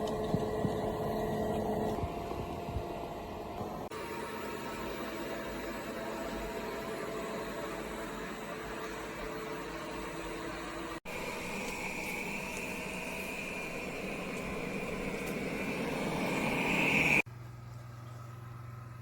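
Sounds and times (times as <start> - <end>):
robot vacuum motor whirring: 0.0 - 17.2
high whine: 0.0 - 17.3
low hum: 0.0 - 19.0.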